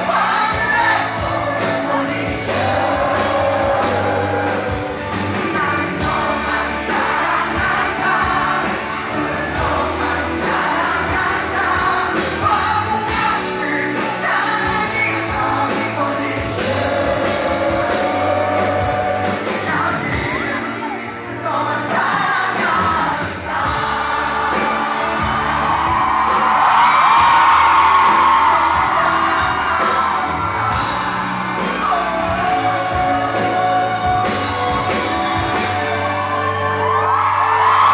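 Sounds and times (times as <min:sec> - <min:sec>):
man singing into a microphone: 0:00.0 - 0:25.0, 0:28.0 - 0:36.4
drums: 0:00.0 - 0:37.9.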